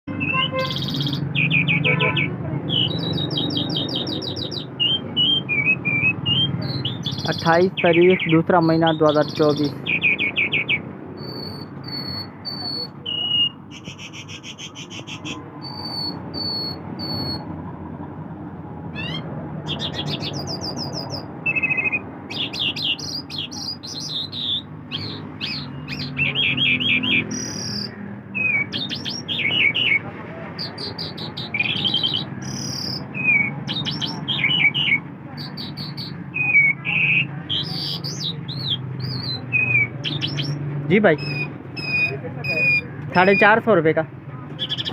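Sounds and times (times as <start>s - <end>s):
lark singing chirps: 0.1s - 17.5s, 18.9s - 30.0s, 30.6s - 43.7s, 44.6s - 44.9s.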